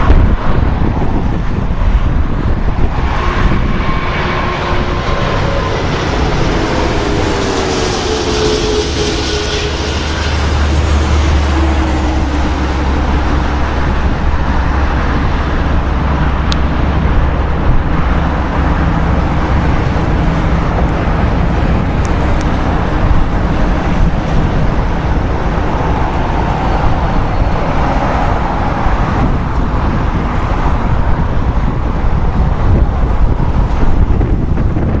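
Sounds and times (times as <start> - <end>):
distant jet engines rumbling: 0.0 - 35.0.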